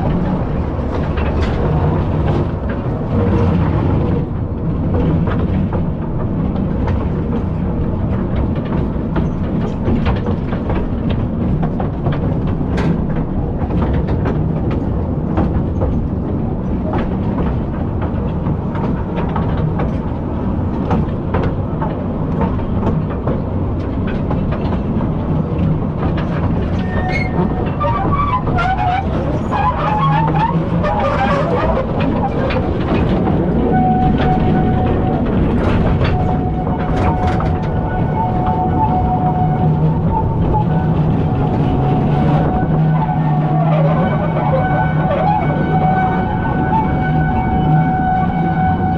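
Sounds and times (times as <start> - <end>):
wheels clicking over rails: 0.0 - 48.6
mine trolley train rumbling: 0.0 - 48.9.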